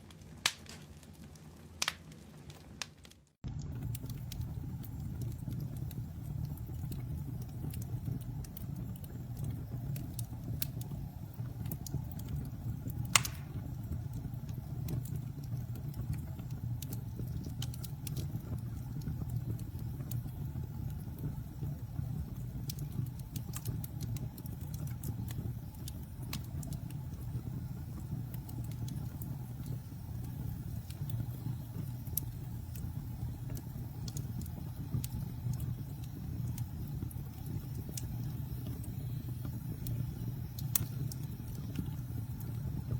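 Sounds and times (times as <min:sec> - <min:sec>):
campfire crackling and popping: 0:00.0 - 0:42.9
campfire low rumble: 0:00.0 - 0:42.9.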